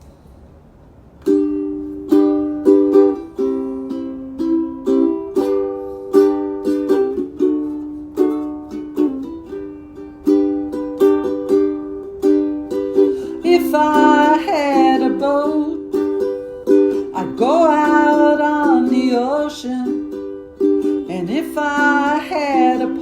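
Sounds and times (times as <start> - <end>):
strummed string instrument chords: 1.2 - 23.0.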